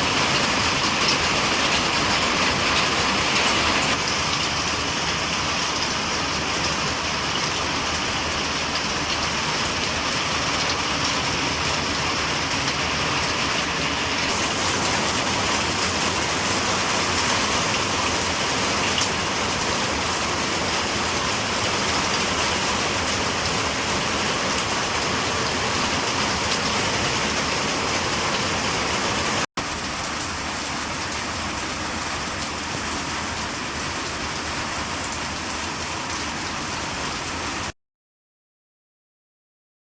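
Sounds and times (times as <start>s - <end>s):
rain pattering: 0.0s - 37.7s.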